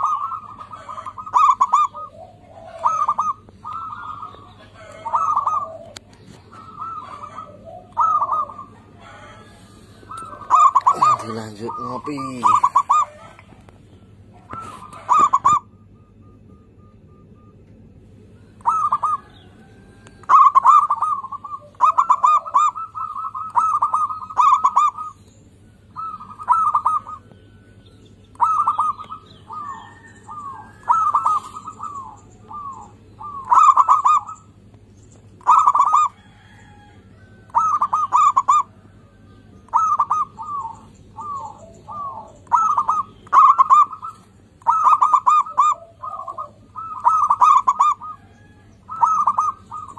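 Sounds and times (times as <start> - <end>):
dove cooing: 0.0 - 49.9
faint low hum: 0.0 - 49.9.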